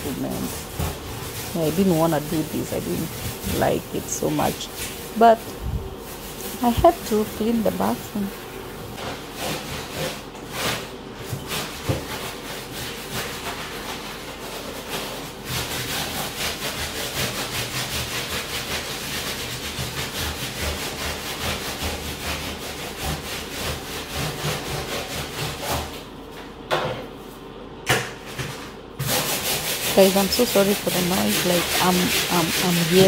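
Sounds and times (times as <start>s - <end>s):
scrubbing rubber bath mat: 0.0s - 25.9s, 29.0s - 33.0s.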